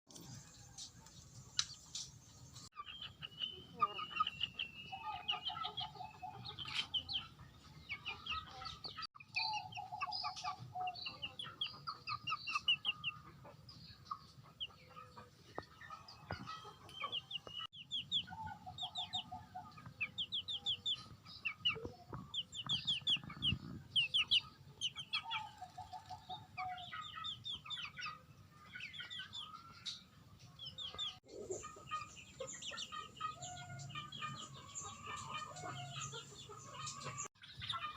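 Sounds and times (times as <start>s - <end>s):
chickens clucking: 0.1s - 37.9s.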